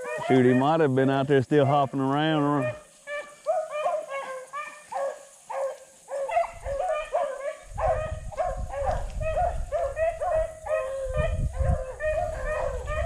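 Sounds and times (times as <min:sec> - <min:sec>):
hunting dogs baying: 0:00.0 - 0:13.0.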